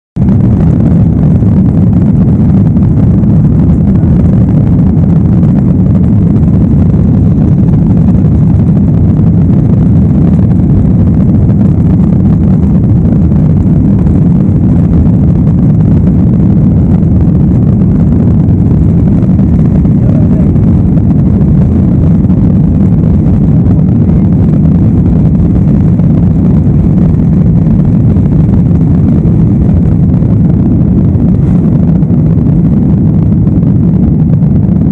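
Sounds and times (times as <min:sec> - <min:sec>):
jet engines rumbling in cabin: 0:00.2 - 0:34.9.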